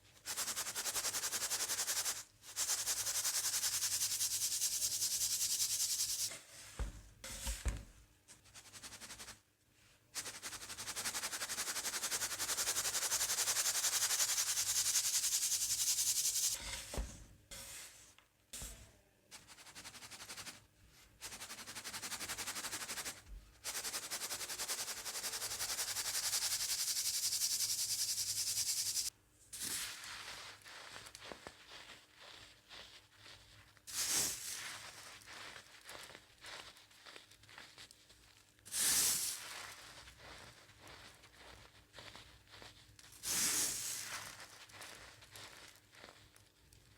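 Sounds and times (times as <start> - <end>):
powder hissing through a sieve: 0.0 - 7.6, 10.2 - 16.6, 19.4 - 46.9.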